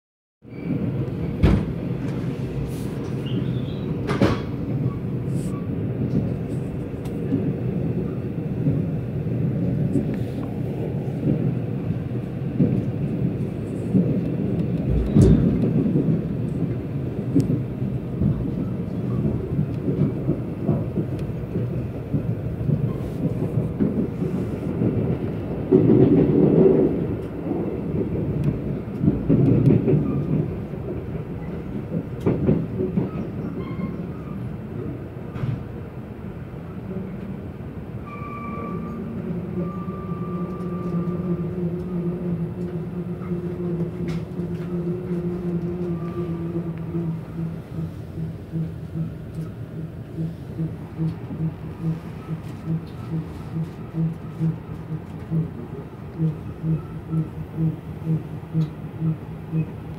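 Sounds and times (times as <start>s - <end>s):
train wheels rumbling on rails: 0.4s - 59.9s.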